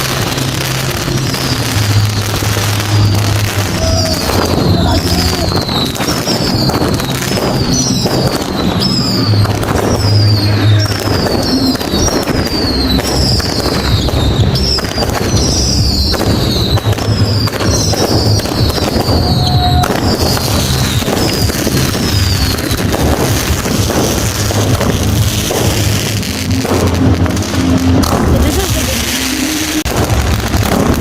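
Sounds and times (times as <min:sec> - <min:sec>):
firework whistles: 0:00.0 - 0:31.0
fireworks crackling and popping: 0:00.0 - 0:31.0.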